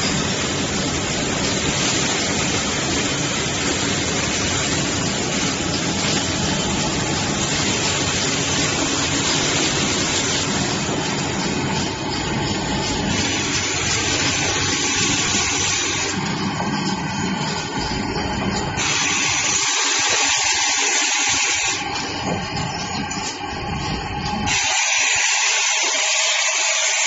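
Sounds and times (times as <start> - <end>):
packaging machine running: 0.0 - 27.0.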